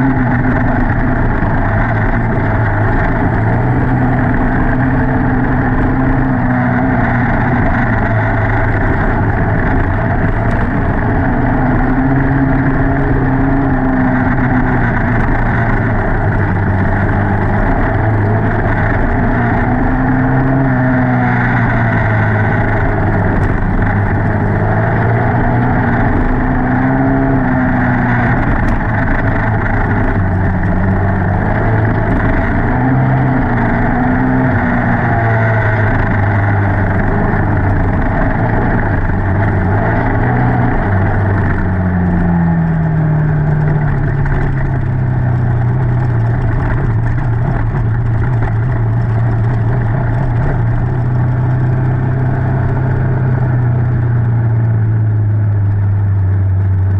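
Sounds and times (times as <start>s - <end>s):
quad bike engine running hard: 0.0s - 56.9s.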